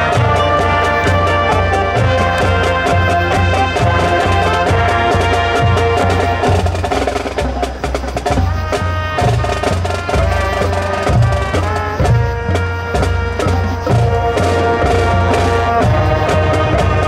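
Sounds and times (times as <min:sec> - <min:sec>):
marching band playing: 0:00.0 - 0:17.0
rapid percussion strokes: 0:00.0 - 0:17.0.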